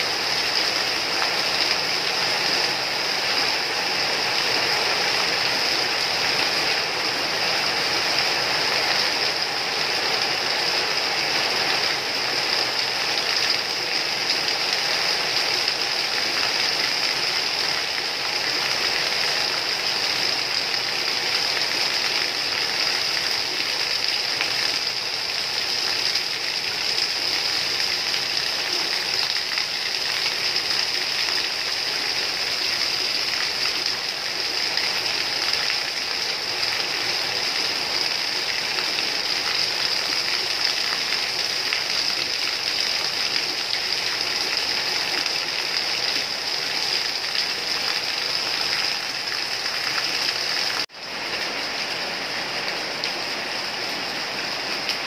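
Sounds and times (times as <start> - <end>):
rain falling steadily: 0.0 - 55.0.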